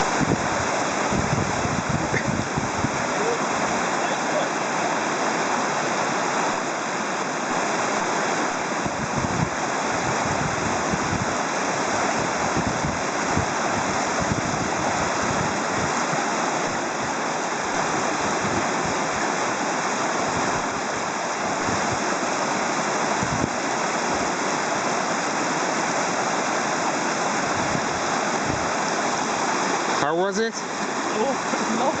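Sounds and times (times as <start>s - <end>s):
river water rushing: 0.0s - 32.0s.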